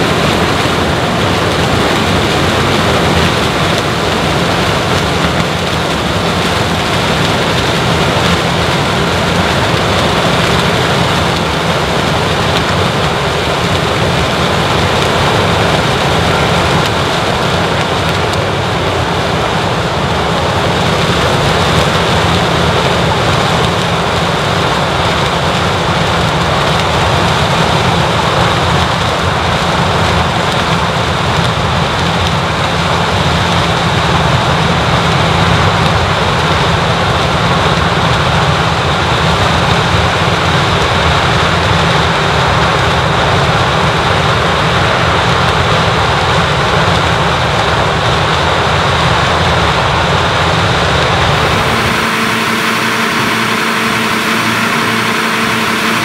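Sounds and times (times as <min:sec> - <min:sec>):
broad rushing noise: 0:00.0 - 0:56.0
harvester engine drone: 0:00.0 - 0:56.0.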